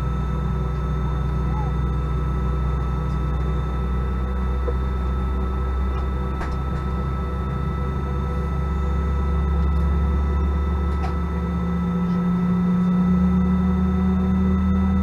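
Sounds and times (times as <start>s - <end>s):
airliner cabin engine hum: 0.0s - 15.0s
constant whining tones: 0.0s - 15.0s.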